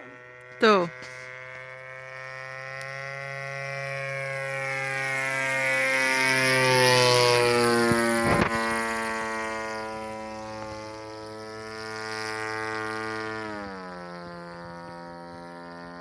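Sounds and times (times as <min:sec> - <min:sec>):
small aircraft flying overhead: 0:00.0 - 0:16.0.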